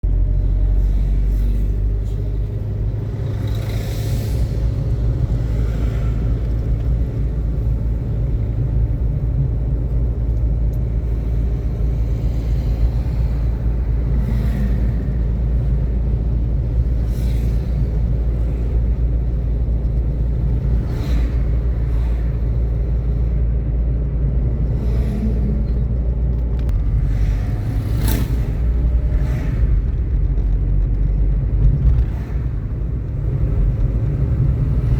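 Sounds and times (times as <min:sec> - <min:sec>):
passing vehicles whooshing: 0:00.0 - 0:34.9
vehicle rumbling along road: 0:00.0 - 0:34.9.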